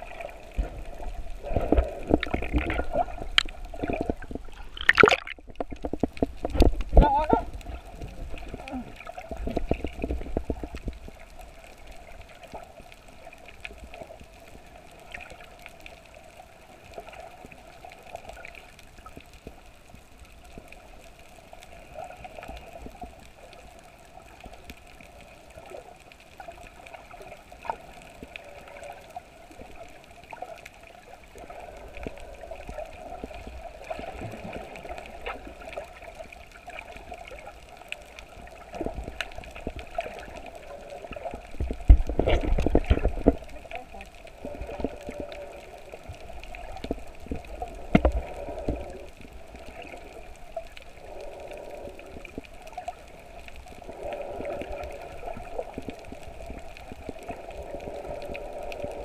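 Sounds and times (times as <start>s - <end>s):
faint underwater clicks: 0.0s - 59.0s
muffled underwater hiss and rumble: 0.0s - 59.0s.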